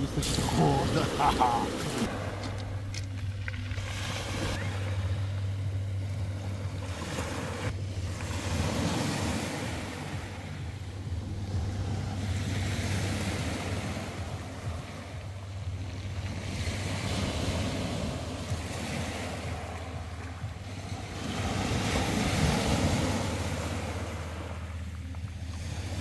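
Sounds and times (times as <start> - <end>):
small waves on a pebble beach: 0.0 - 26.0.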